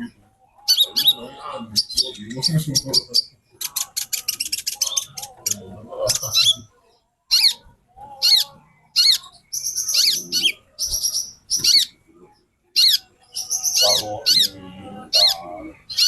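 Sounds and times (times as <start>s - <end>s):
bird chirping and twittering: 0.0s - 16.0s.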